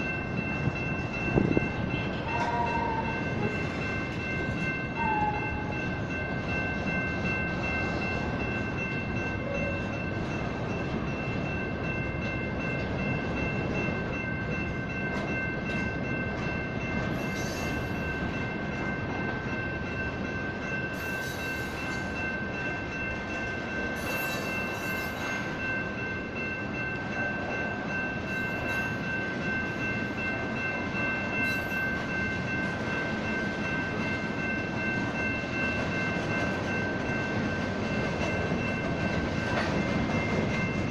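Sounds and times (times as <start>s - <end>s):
freight train rumbling: 0.0s - 40.9s
railroad crossing bells ringing: 0.0s - 40.9s.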